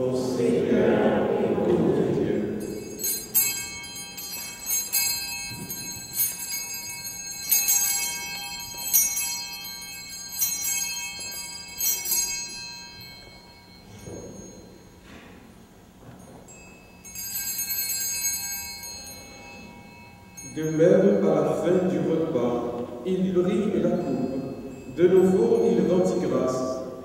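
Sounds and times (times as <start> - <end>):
small bells ringing: 2.5 - 27.0.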